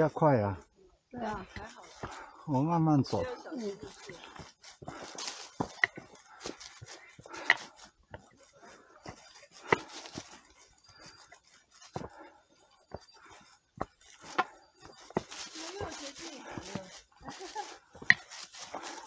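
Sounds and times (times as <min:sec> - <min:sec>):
footsteps crunching on forest trail: 0:00.0 - 0:19.0.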